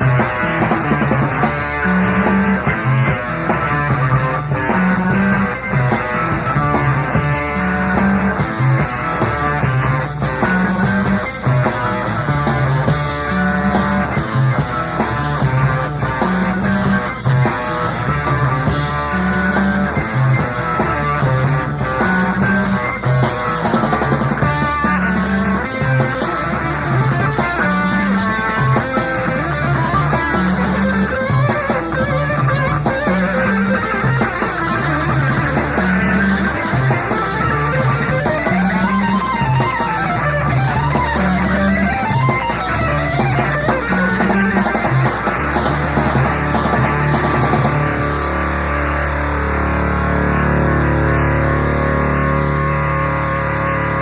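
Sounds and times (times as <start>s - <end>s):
electric guitar runs: 0.0s - 54.0s
progressive rock band playing: 0.0s - 54.0s
repeating bass figure: 0.0s - 54.0s.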